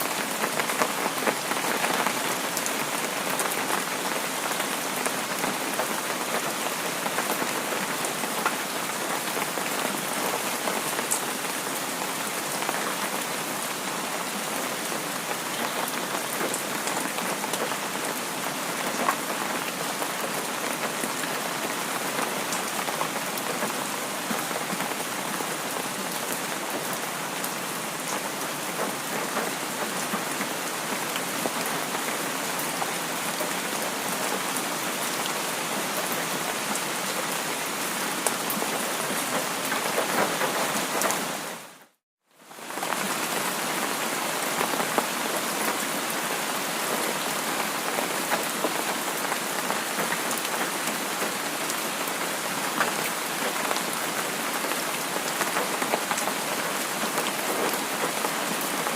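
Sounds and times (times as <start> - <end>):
rain hissing on a surface: 0.0 - 58.9.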